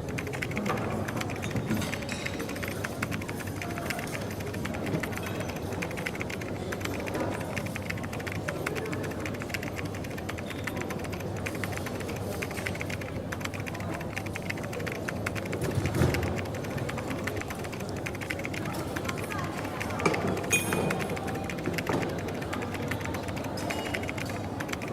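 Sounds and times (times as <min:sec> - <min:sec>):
background murmur of voices: 0:00.0 - 0:24.9
light clicking and clatter: 0:00.0 - 0:24.9.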